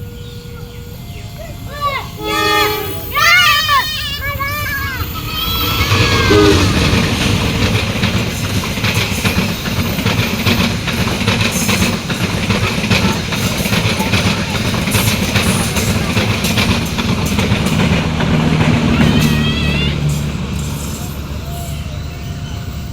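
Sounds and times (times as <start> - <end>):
train rumbling past: 0.0 - 22.9
wheels clacking over rail joints: 1.7 - 22.9.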